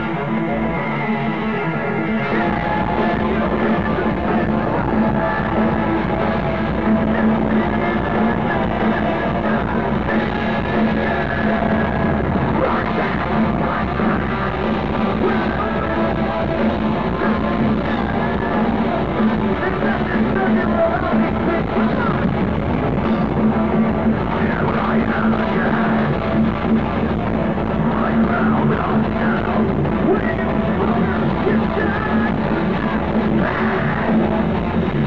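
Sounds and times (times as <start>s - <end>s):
live rock band playing: 0.0s - 35.0s
person singing into microphone: 0.0s - 35.0s.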